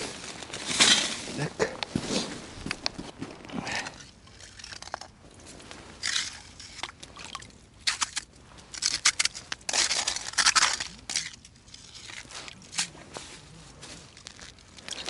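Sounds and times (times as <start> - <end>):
wet crunching and scraping: 0.0 - 15.0.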